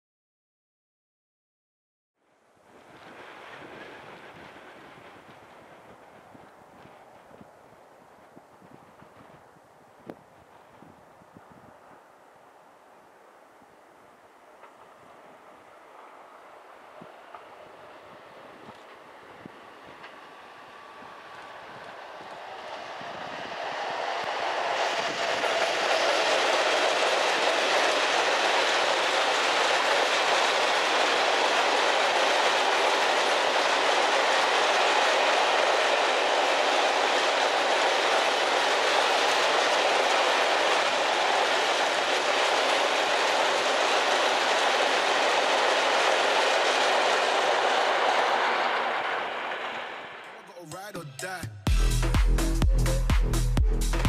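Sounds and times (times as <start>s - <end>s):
freight train wheels rolling on rails: 2.5s - 50.9s.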